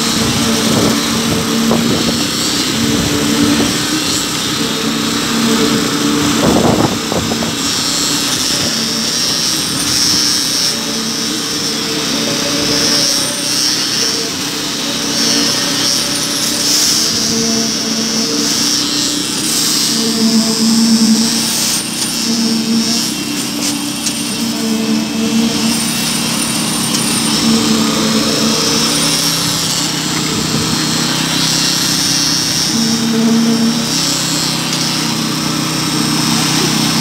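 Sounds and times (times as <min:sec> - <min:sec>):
concrete pump humming: 0:00.0 - 0:37.0.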